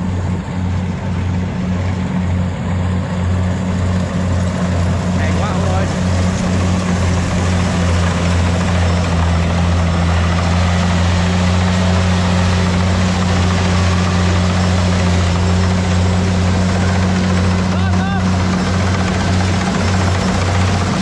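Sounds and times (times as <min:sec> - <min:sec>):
harvester diesel engine droning: 0:00.0 - 0:21.0.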